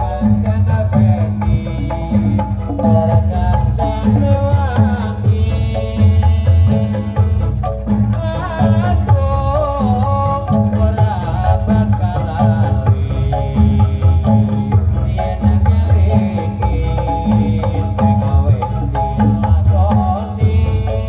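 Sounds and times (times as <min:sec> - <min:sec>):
hand drums beating: 0:00.0 - 0:21.0
wavering melody line: 0:00.0 - 0:21.0.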